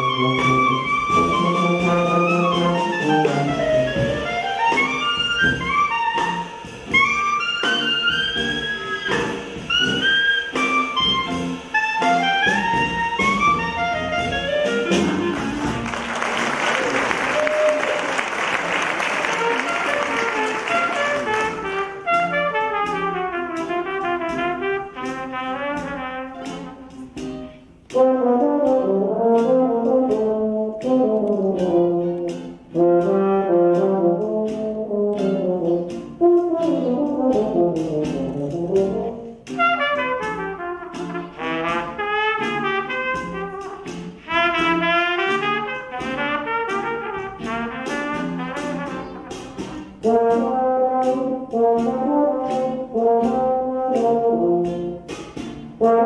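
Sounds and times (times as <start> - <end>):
brass horns melody: 0.0 - 56.0
trumpet: 0.0 - 56.0
tuba: 0.0 - 56.0.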